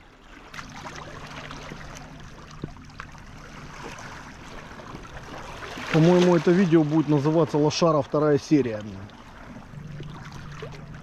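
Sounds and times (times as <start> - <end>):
sea water lapping: 0.0 - 11.0
steady low hum: 0.0 - 11.0.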